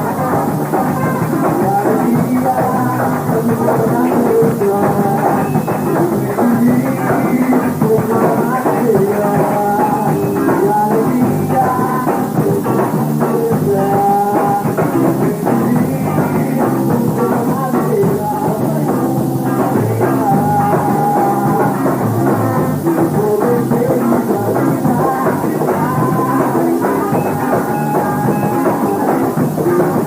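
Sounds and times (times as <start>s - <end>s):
drum kit: 0.0s - 30.0s
rock band playing: 0.0s - 30.0s.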